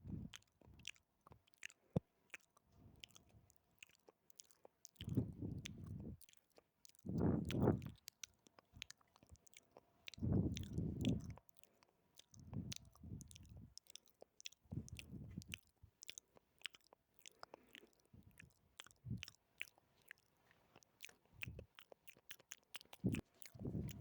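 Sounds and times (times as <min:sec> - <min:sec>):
wet mouth clicks and smacks: 0:00.1 - 0:24.0.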